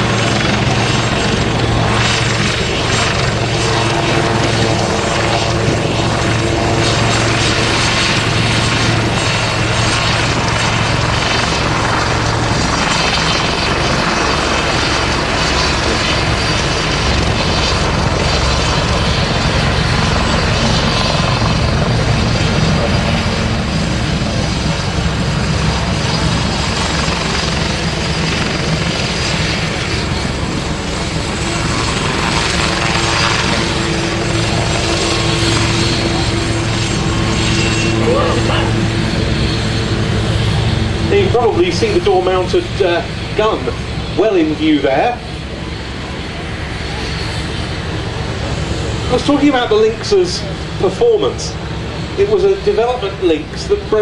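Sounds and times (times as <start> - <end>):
steady low hum: 0.0 - 44.2
helicopter rotor and engines: 0.0 - 54.0.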